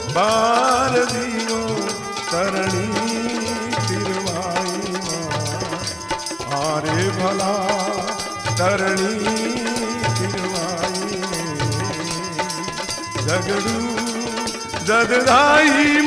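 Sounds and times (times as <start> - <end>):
hand drum steady beat: 0.0 - 16.0.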